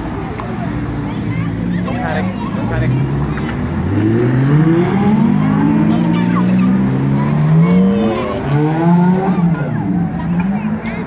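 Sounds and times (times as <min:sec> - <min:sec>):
car engines accelerating: 0:00.0 - 0:11.0.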